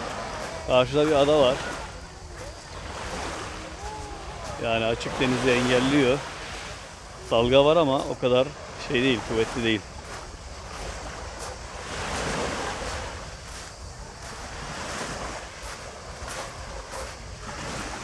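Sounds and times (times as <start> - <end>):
waves washing onto pebble shore: 0.0 - 18.0
wind rumble on microphone: 0.0 - 18.0.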